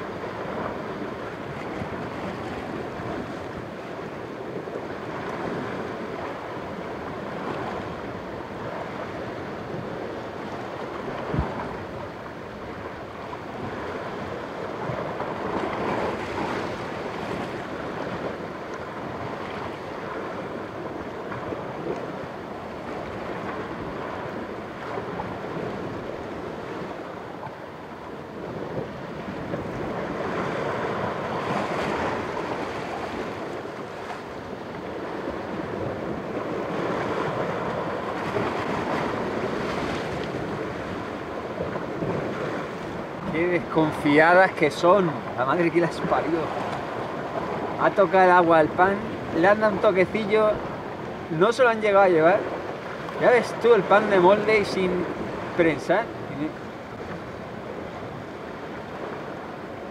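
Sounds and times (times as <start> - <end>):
sea waves washing against rocks: 0.0 - 59.9
wind: 0.0 - 59.9.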